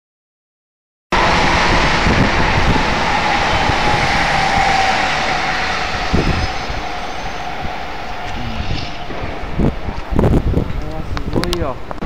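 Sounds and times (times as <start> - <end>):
electric train running past: 1.1 - 11.3.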